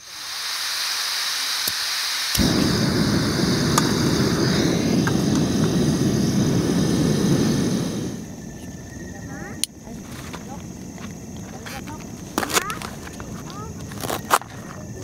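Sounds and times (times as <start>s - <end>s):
gas stove burner roaring: 0.0s - 13.4s.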